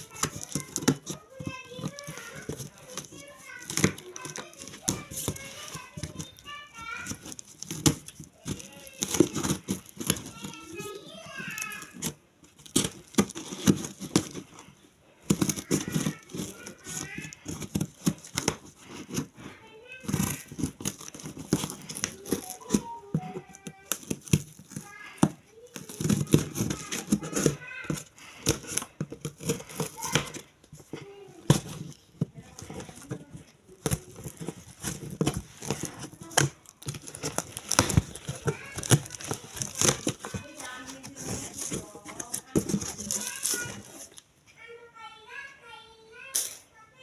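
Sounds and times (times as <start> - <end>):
plastic and cardboard packaging crinkling: 0.0 - 44.4.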